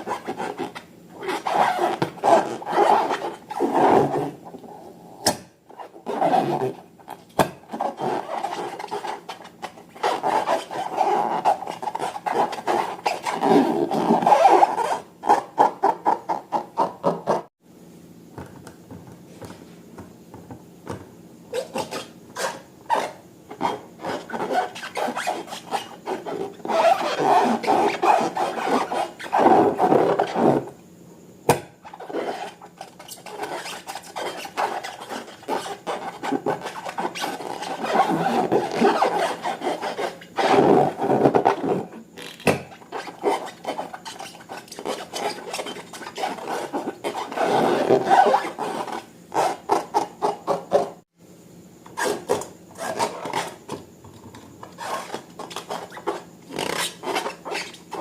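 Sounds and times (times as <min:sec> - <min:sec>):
hands rubbing balloons: 0:00.0 - 0:04.4, 0:05.8 - 0:17.5, 0:21.6 - 0:30.7, 0:31.8 - 0:41.9, 0:42.7 - 0:50.9, 0:54.6 - 0:58.0.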